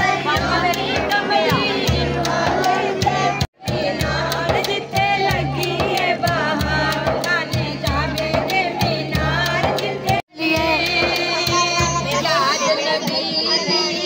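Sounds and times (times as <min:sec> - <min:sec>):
steady rhythmic beat: 0:00.0 - 0:13.4
woman singing into microphone: 0:00.0 - 0:14.0.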